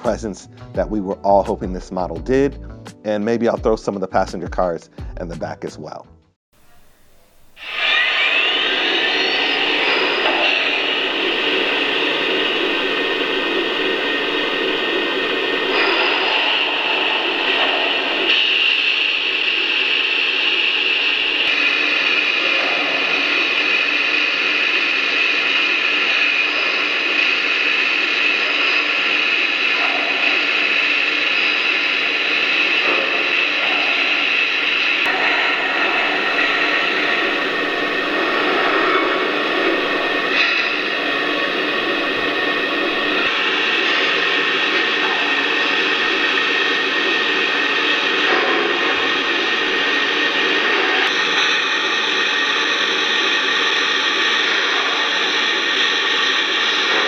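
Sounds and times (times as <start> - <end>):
model steam locomotive hiss and rumble: 6.6 - 57.0.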